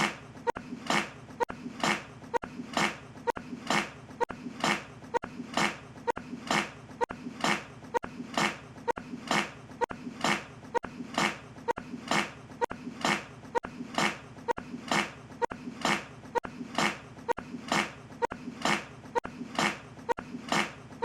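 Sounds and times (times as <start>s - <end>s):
fart sound effect: 0.0s - 20.8s.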